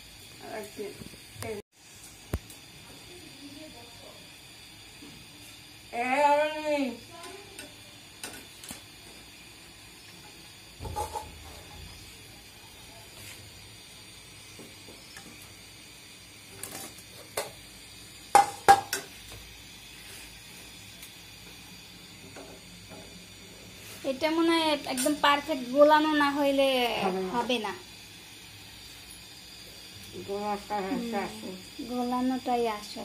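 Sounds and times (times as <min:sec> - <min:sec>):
oil frying hiss: 0:00.0 - 0:33.0.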